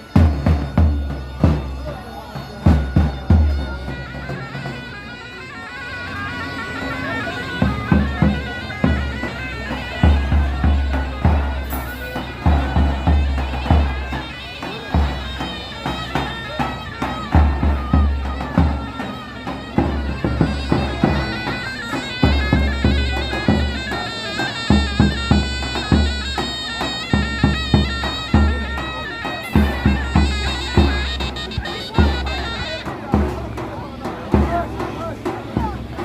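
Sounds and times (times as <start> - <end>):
heavy drum beats: 0.0 - 5.0, 7.6 - 36.0
shrill reed wind instrument: 0.0 - 36.0.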